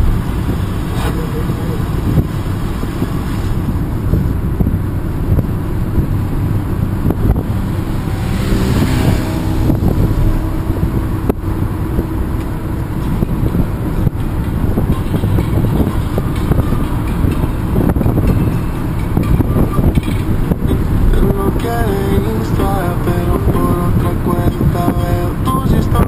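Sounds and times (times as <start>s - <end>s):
van engine and tyres rumbling: 0.0s - 26.0s
wind buffeting microphone: 0.0s - 26.0s.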